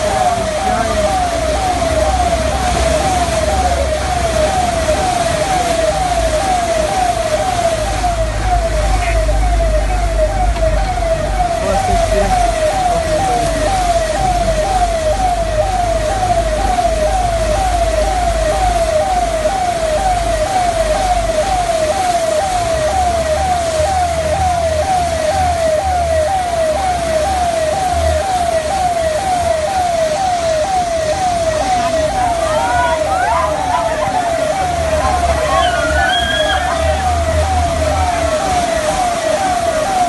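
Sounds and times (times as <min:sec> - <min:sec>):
electronic siren yelping: 0:00.0 - 0:40.0.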